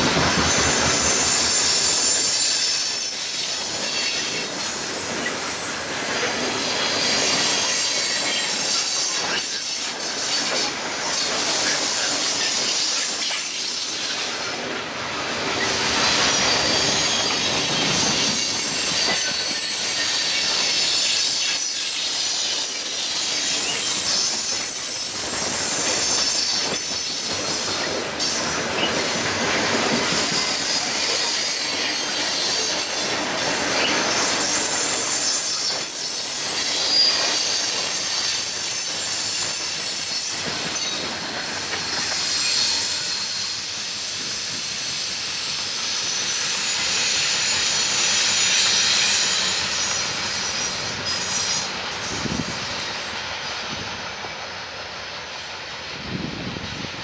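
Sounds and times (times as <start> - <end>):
train cars rolling on rails: 0.0 - 57.0
wheels squealing against rail: 0.0 - 57.0.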